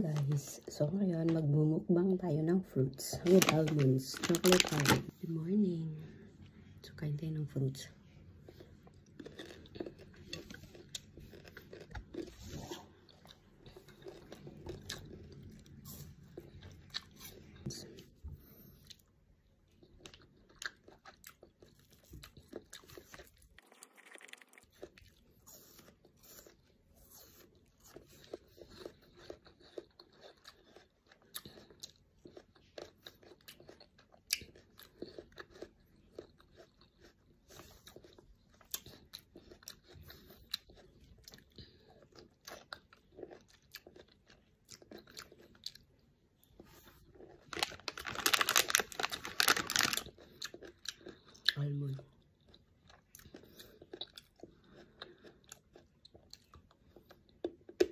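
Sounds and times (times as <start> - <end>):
person crunching and chewing fruit: 3.1 - 5.2, 8.0 - 57.9.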